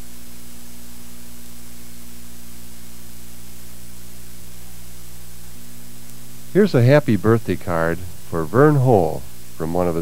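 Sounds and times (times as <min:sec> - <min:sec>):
electrical hum with hiss: 0:00.0 - 0:10.0.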